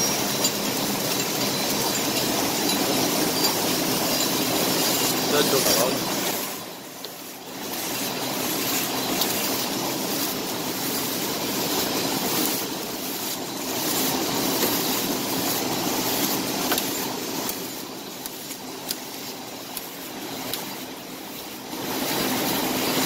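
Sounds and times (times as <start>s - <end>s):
packing machine clatter and whir: 0.0s - 23.0s.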